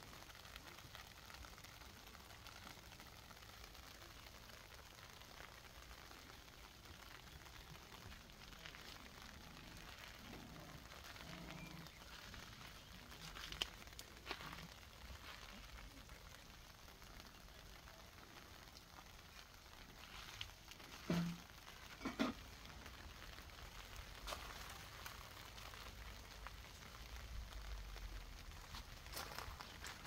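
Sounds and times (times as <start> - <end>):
faint rain on tent fabric: 0.0 - 30.0.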